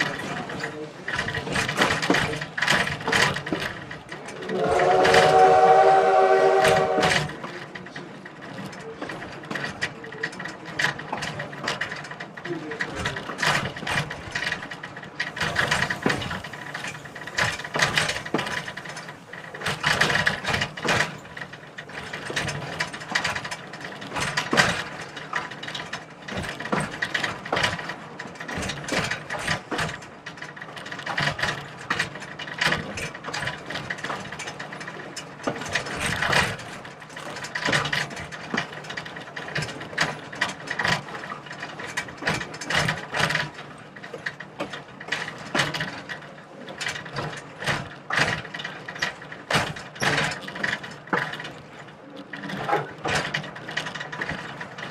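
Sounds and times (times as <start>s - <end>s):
train wheels clanking and rattling: 0.0s - 54.9s.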